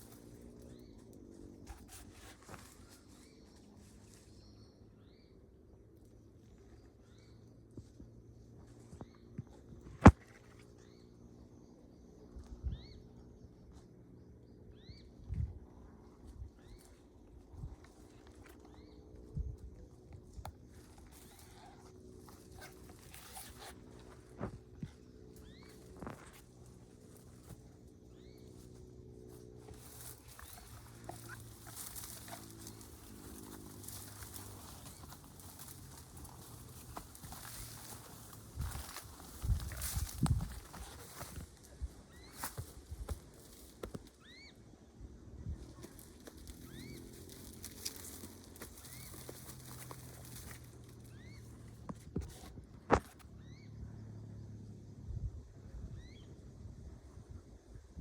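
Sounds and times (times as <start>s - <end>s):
bird chirping: 0.0s - 42.9s, 45.4s - 54.1s
low steady hum: 0.0s - 58.0s.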